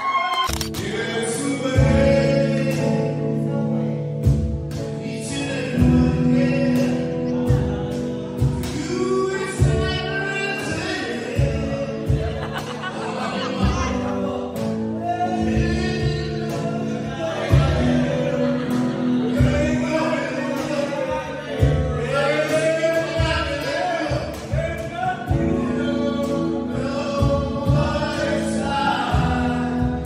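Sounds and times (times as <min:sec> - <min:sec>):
live guitar: 0:00.0 - 0:30.0
man singing into a microphone: 0:00.0 - 0:30.0.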